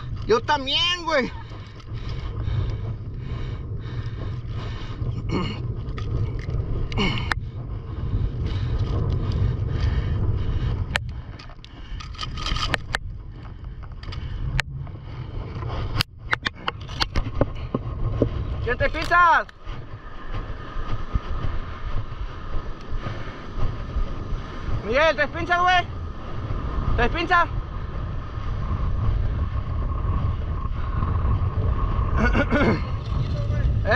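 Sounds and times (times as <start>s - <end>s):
wind rumble on microphone: 0.0s - 33.9s.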